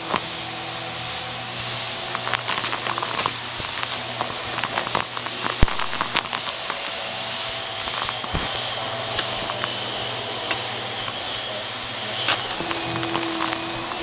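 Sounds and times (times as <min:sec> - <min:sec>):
debris crackling in vacuum: 0:00.0 - 0:14.0
steady higher hum: 0:00.0 - 0:14.0
vacuum cleaner suction hiss: 0:00.0 - 0:14.0.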